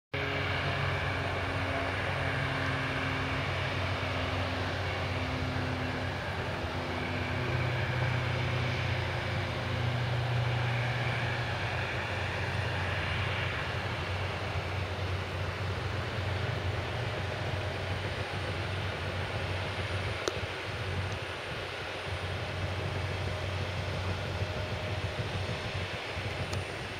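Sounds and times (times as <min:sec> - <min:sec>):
jet airliner hum and rushing: 0:00.1 - 0:26.9
faint high whine: 0:00.2 - 0:26.9.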